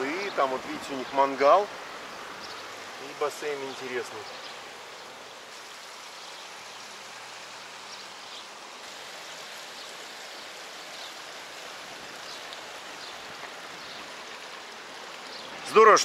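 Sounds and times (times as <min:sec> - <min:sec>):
running water rushing: 0:00.0 - 0:16.0.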